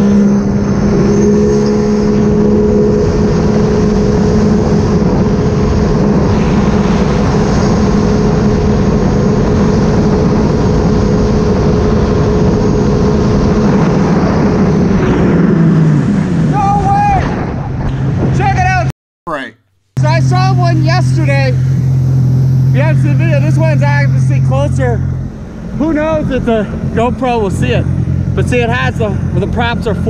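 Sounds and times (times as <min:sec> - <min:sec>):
jet ski engine running: 0:00.0 - 0:18.8, 0:20.0 - 0:30.0.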